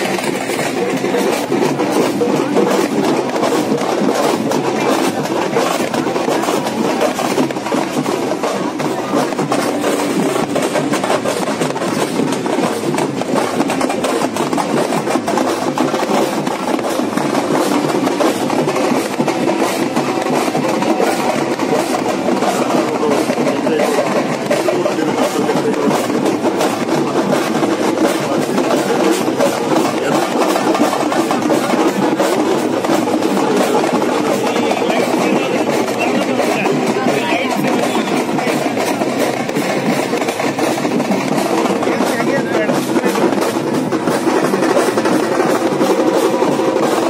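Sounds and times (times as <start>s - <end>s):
background din: 0.0s - 47.0s
loud music with percussion: 0.0s - 47.0s.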